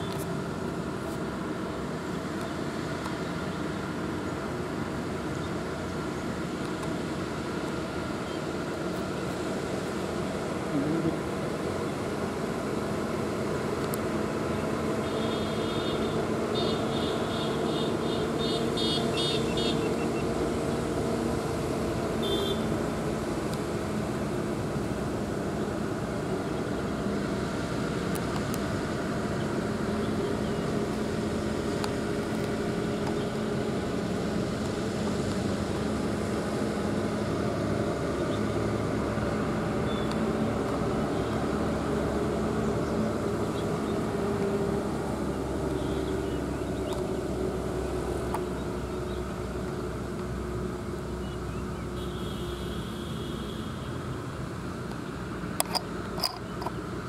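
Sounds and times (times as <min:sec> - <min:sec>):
road traffic passing: 0:00.0 - 0:57.0
truck diesel engine droning: 0:00.0 - 0:57.0.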